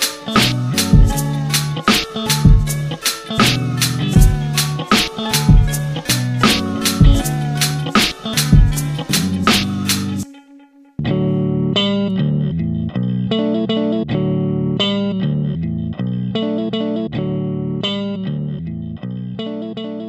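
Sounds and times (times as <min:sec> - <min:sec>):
plucked guitar riff over bass: 0:00.0 - 0:20.0.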